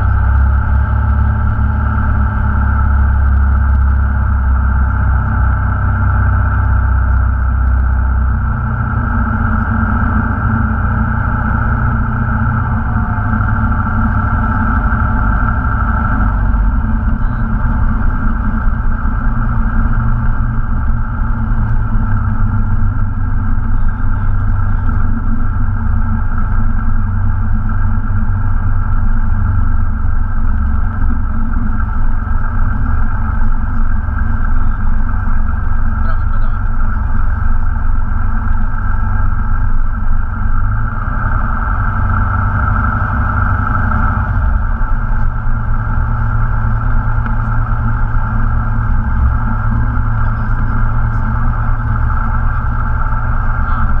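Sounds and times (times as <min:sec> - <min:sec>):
airplane engine and propeller: 0:00.0 - 0:54.0.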